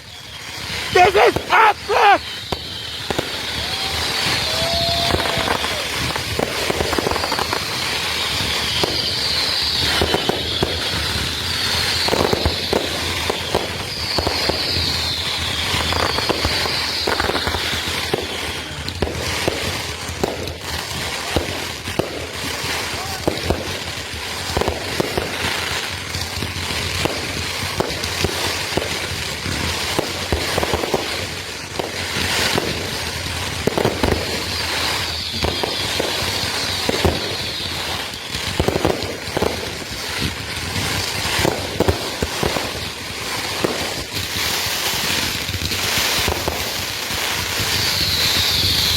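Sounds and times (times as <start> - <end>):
fireworks bangs and crackling: 0.0 - 48.9
fireworks falling whistles: 0.0 - 48.9.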